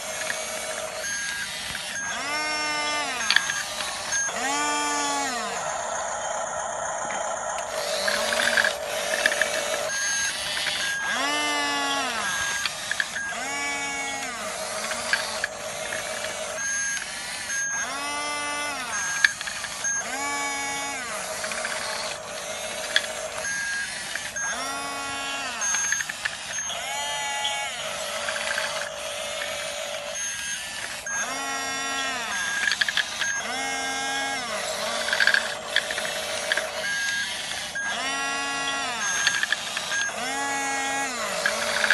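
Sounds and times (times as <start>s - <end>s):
steady hum: 0.0s - 41.9s
toy bulldozer motors whining: 0.0s - 41.9s.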